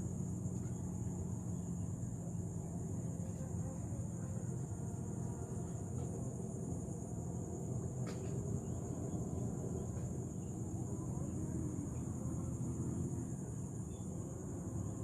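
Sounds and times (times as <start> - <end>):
insects chirping: 0.0 - 15.0
low rumbling background noise: 0.0 - 15.0.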